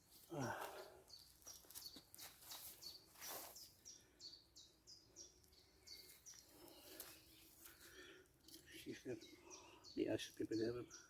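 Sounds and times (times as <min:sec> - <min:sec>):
songbird calling: 0:01.1 - 0:11.0.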